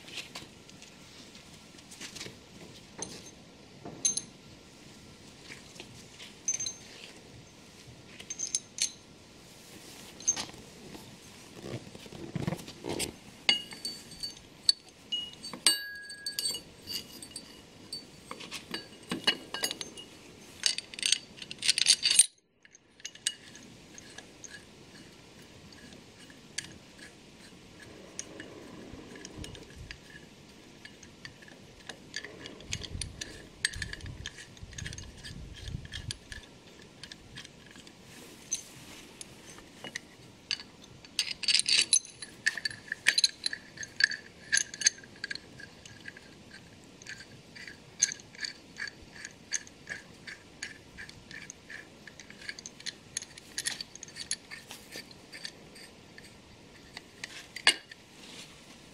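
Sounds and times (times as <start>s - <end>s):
metal parts clinking and knocking: 3.0s - 4.4s, 6.5s - 7.1s, 8.1s - 9.1s, 12.8s - 58.0s.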